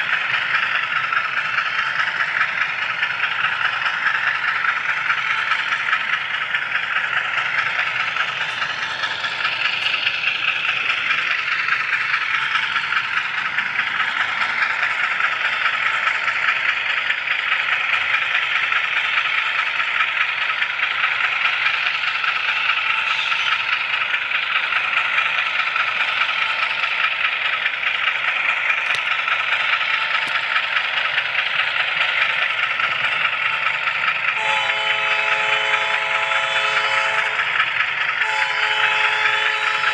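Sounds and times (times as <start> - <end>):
model train wheels on rails: 0.0 - 39.9.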